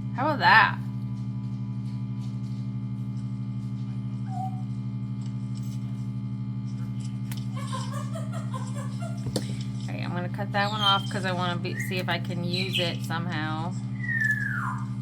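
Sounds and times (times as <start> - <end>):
vacuum pump motor hum: 0.9 - 14.1.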